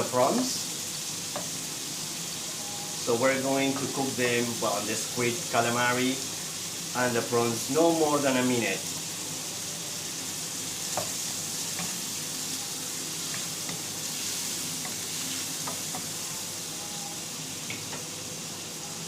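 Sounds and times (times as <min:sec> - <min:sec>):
seafood sizzling in hot oil: 0:00.0 - 0:19.0.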